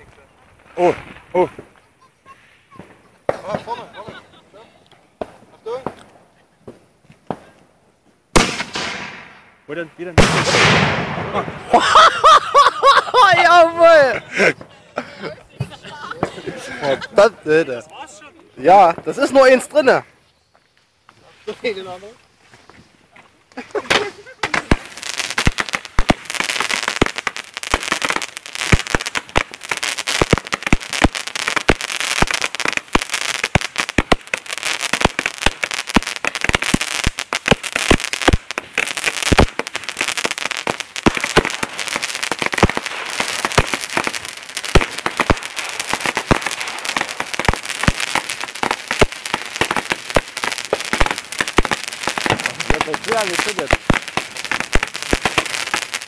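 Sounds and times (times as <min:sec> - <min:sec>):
fireworks and firecrackers banging: 0:00.0 - 0:20.1, 0:21.1 - 0:56.0.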